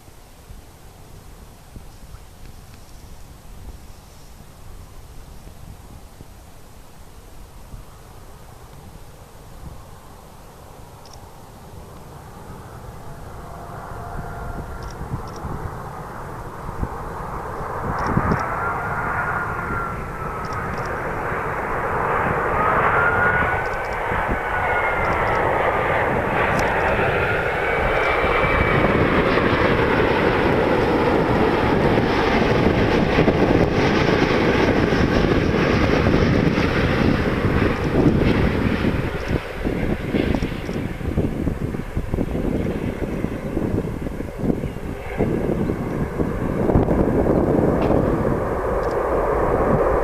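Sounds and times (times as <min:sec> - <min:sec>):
jet engines whining and roaring: 0:00.0 - 0:50.0.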